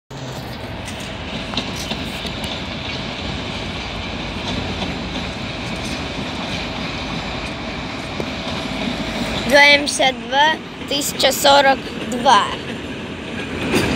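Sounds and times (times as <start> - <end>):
diesel locomotive drone: 0.1 - 13.9
wheels clicking over track: 0.1 - 13.9.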